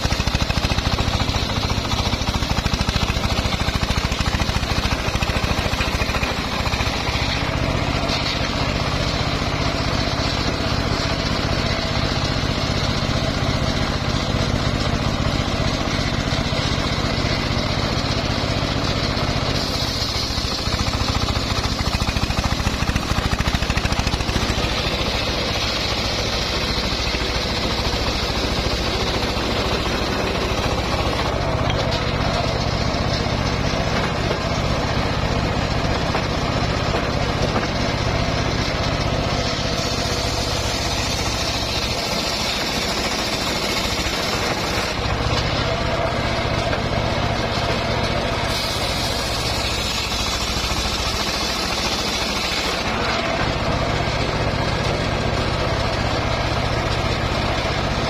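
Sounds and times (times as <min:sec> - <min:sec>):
circular sawmill cutting log: 0:00.0 - 0:58.0.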